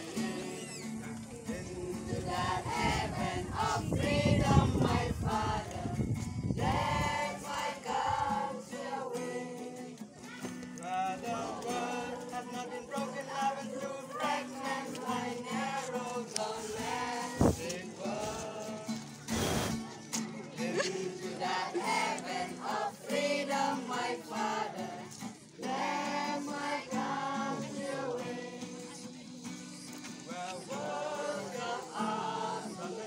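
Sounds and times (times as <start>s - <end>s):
boys singing in unison: 0.0s - 10.0s, 10.9s - 19.1s, 20.6s - 29.5s, 30.2s - 33.0s
strummed acoustic guitar: 0.0s - 33.0s.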